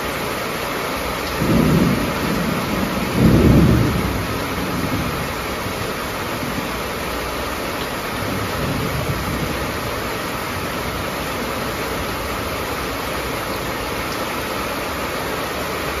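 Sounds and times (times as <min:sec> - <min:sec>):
heavy rain on metal roof: 0:00.0 - 0:16.0.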